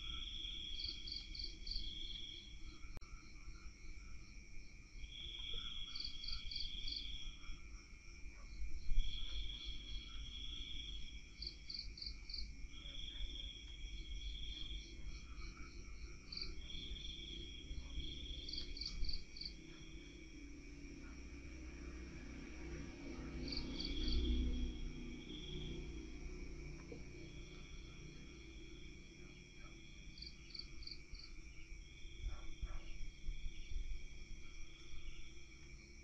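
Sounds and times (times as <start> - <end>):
crickets chirping: 0.0 - 36.0.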